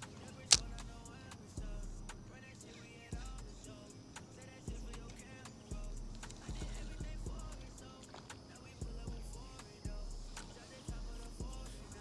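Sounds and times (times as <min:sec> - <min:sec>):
hip-hop beat: 0:00.0 - 0:12.0
ticking hi-hats: 0:00.0 - 0:12.0.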